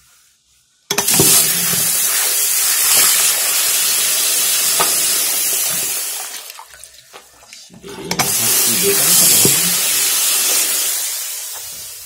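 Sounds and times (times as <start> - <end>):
water running from tap: 0.9 - 12.0.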